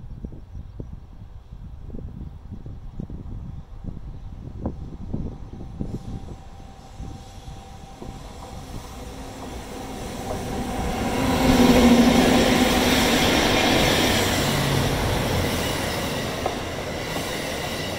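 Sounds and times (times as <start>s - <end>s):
train passing close by: 1.2s - 17.9s.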